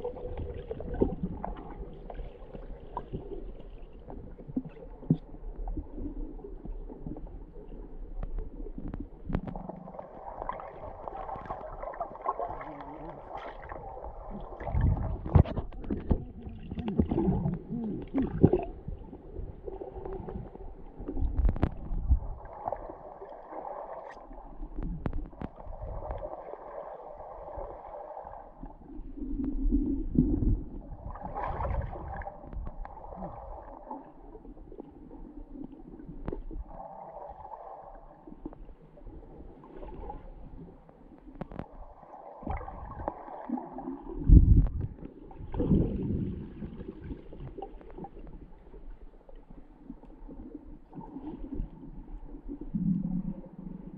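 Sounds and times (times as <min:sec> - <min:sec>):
muffled underwater rumbling: 0:00.0 - 0:53.9.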